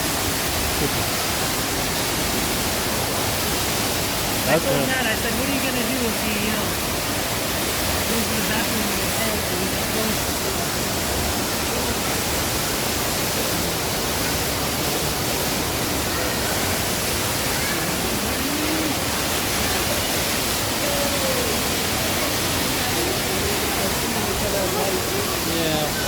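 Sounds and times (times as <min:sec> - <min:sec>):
faint voices: 0:02.6 - 0:26.0.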